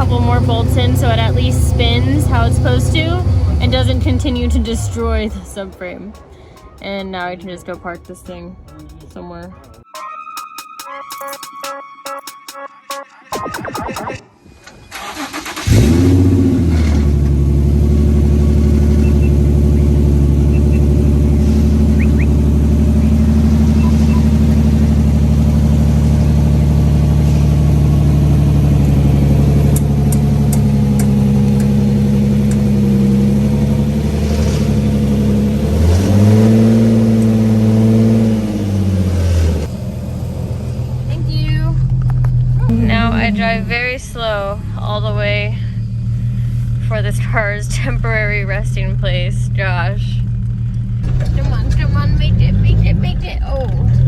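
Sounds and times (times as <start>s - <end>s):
car engine revving: 0.0s - 9.8s, 14.7s - 54.0s
car engine starting and idling: 0.0s - 9.9s, 14.4s - 54.0s.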